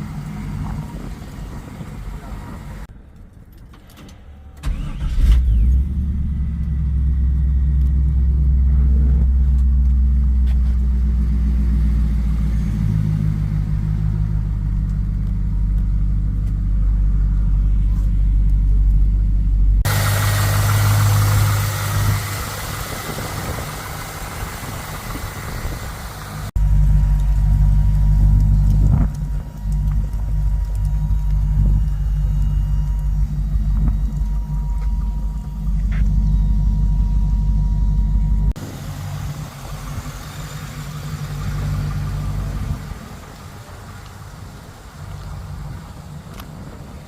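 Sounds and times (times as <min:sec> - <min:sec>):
car engine starting and idling: 0:00.0 - 0:47.0.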